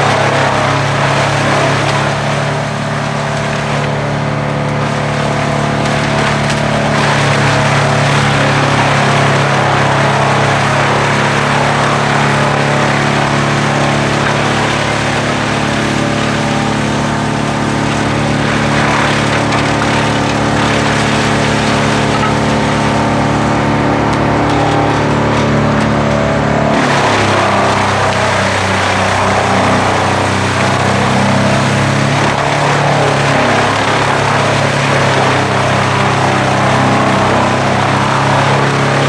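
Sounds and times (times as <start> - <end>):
tractor engine running under load: 0.0 - 39.0
wood crackling in chipper: 0.0 - 39.0.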